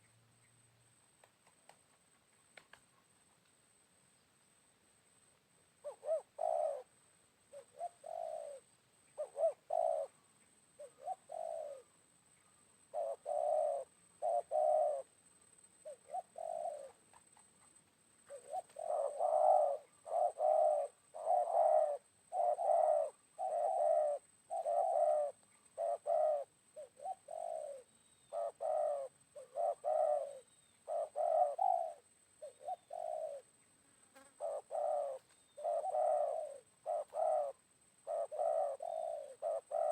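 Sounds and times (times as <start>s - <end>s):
faint high bird chirps: 0.0s - 0.8s, 7.5s - 39.9s
dove cooing: 5.8s - 12.0s, 12.8s - 15.2s, 15.8s - 33.5s, 34.2s - 39.9s.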